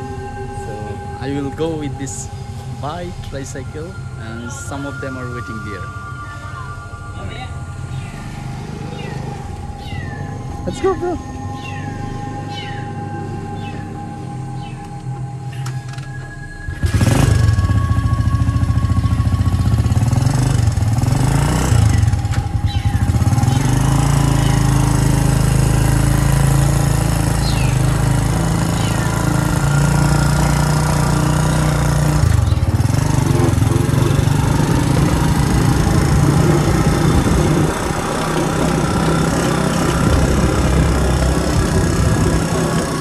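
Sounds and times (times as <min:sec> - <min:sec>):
motorcycle engine rumbling: 0:00.0 - 0:43.0.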